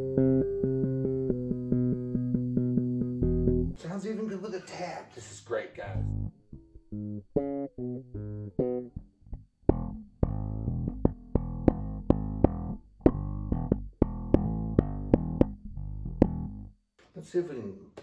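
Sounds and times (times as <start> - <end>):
electric bass plucked notes: 0.0 - 3.8, 5.9 - 16.8.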